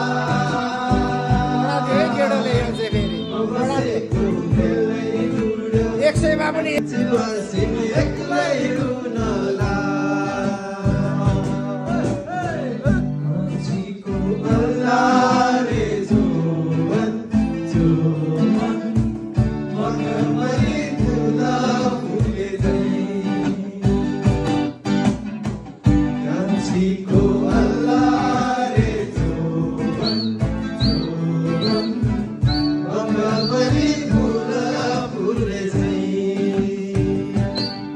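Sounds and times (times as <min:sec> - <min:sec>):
man singing into a microphone: 0:00.0 - 0:24.3, 0:26.2 - 0:37.9
acoustic guitar strumming: 0:00.0 - 0:37.9.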